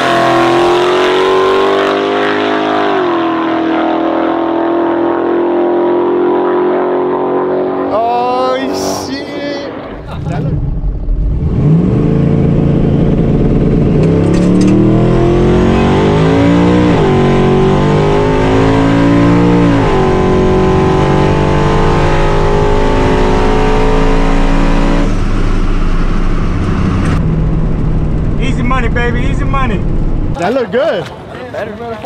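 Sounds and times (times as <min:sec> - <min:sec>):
truck engine accelerating hard: 0:00.0 - 0:30.4.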